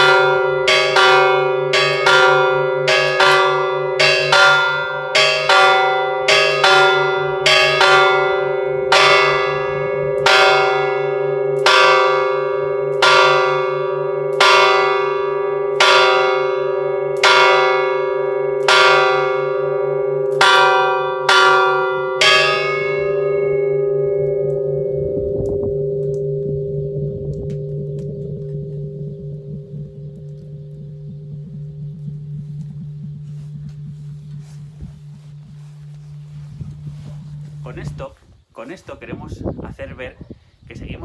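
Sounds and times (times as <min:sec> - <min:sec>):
church bell tolling: 0:00.0 - 0:38.1.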